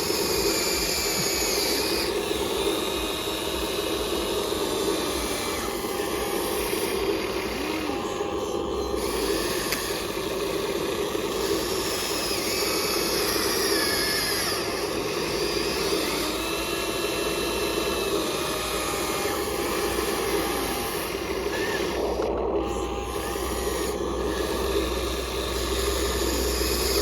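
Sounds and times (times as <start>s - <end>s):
high motor whines: 0.0s - 27.0s
toy electric motors whirring: 0.0s - 27.0s.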